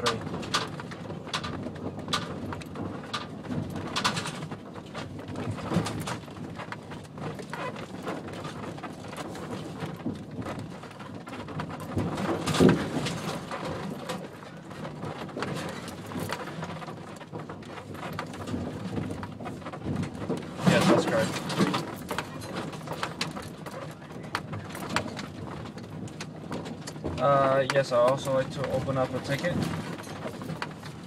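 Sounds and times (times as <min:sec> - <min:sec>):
knocks and rattles from bumps: 0:00.0 - 0:31.0
vehicle rumbling on dirt track: 0:00.0 - 0:31.0.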